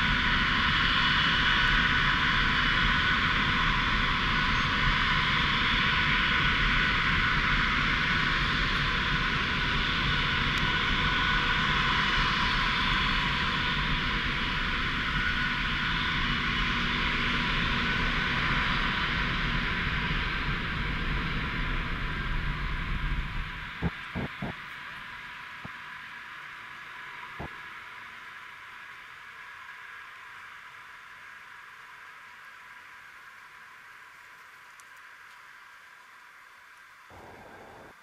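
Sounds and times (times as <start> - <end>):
jet engines at takeoff thrust: 0.0 - 38.0.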